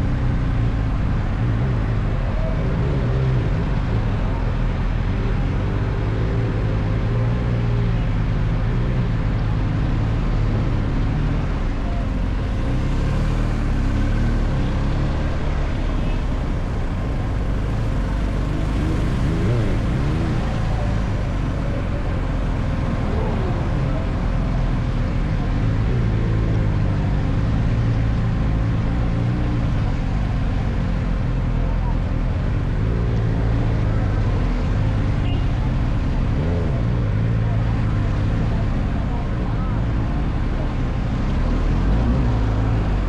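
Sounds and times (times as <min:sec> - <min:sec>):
car engine and tyres rumbling: 0:00.0 - 0:43.0.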